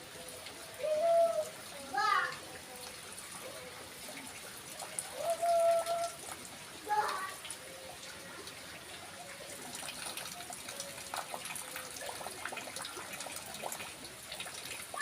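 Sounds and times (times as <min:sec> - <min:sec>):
pouring water runoff: 0:00.0 - 0:15.0
steady rain falling: 0:00.0 - 0:15.0.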